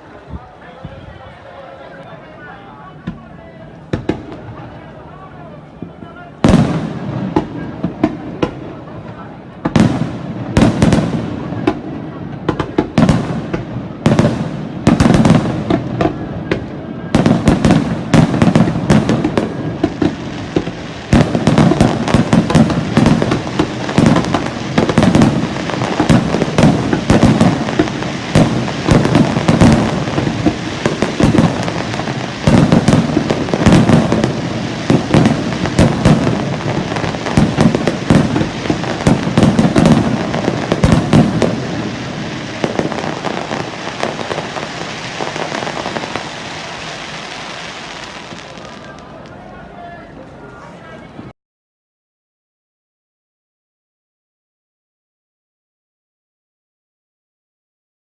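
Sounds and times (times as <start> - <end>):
fireworks crackling: 0.0 - 51.3
fireworks booming: 2.9 - 49.4.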